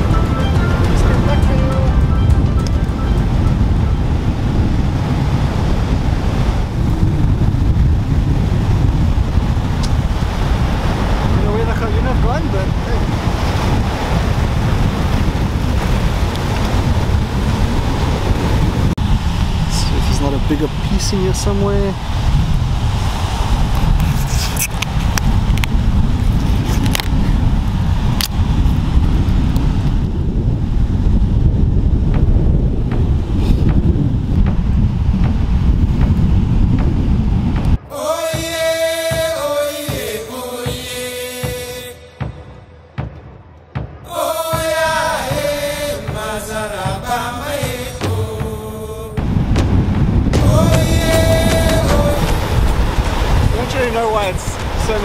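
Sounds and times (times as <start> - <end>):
surf breaking on shore: 0.0 - 42.2, 44.1 - 55.0
wind buffeting microphone: 0.0 - 43.1, 43.8 - 55.0.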